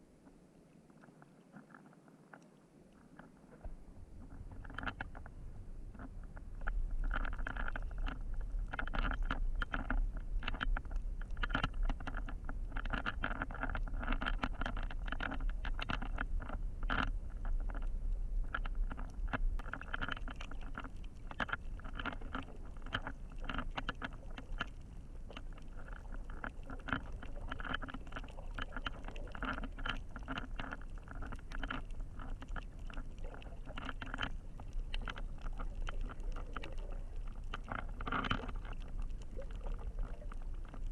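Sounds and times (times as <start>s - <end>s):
underwater low rumble: 0.0s - 40.9s
small underwater clicks: 0.1s - 40.9s.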